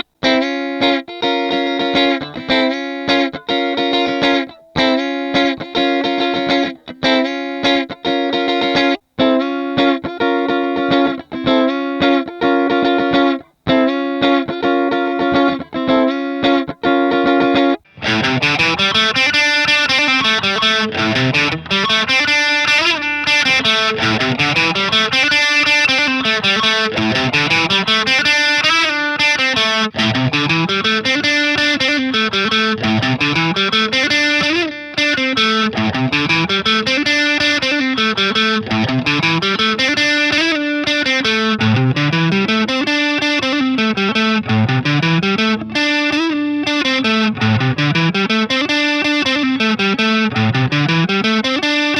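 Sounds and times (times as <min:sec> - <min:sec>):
electric guitar chords: 0:00.0 - 0:51.9
electric guitar riff: 0:00.0 - 0:51.9.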